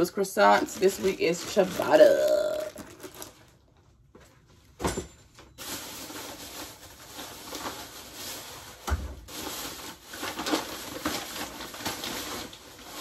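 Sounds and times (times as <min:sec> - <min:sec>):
plastic bags rustling: 0:00.0 - 0:03.8, 0:05.3 - 0:13.0.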